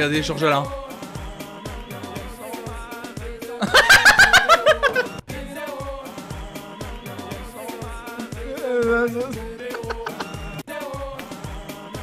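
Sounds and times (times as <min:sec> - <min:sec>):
upbeat dance-pop music: 0:00.0 - 0:12.0.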